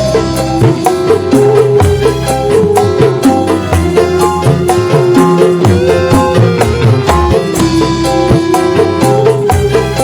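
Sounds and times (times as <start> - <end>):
bass line: 0.0 - 10.0
hand drum beat: 0.0 - 10.0
held melody: 0.0 - 10.0.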